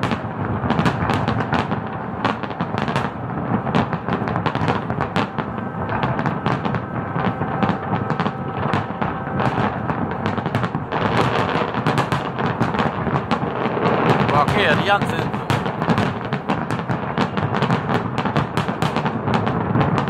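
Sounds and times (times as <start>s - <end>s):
continuous low rumble: 0.0s - 18.2s
fireworks crackle: 0.0s - 20.0s
fireworks shells bursting: 0.0s - 20.0s.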